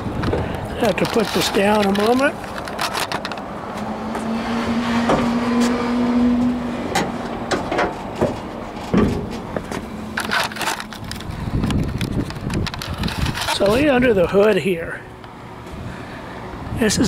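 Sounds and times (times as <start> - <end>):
motor vehicle humming: 0.0 - 16.8.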